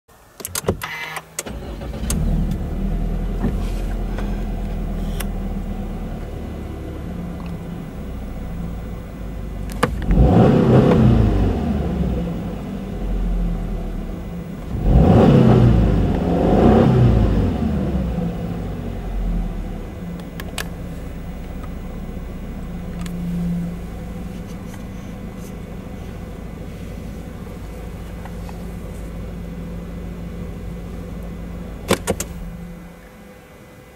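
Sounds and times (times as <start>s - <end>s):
car engine idling and revving: 1.4s - 33.9s.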